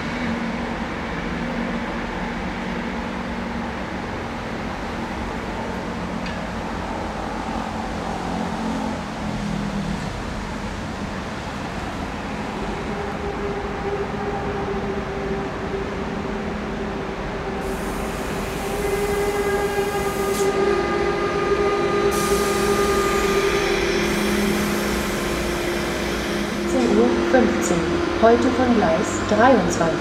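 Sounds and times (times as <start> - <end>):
electric train rolling with whine: 0.0 - 30.0.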